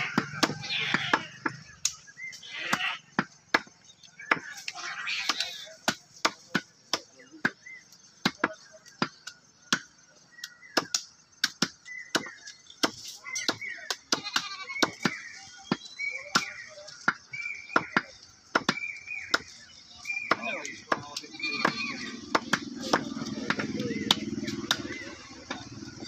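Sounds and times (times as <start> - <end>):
cleavers chopping meat and bone: 0.0 - 26.0.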